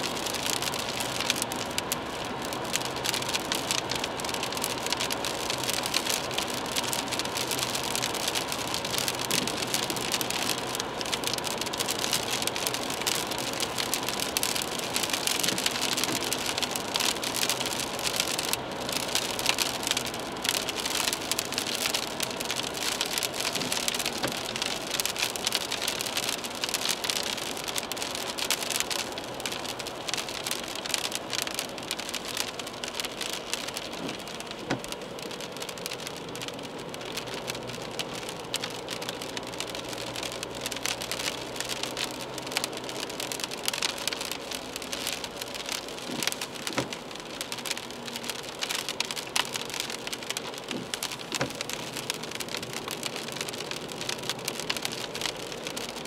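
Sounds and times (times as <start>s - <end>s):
car tyres droning on wet road: 0.0s - 56.0s
rain pattering on a car: 0.0s - 56.0s.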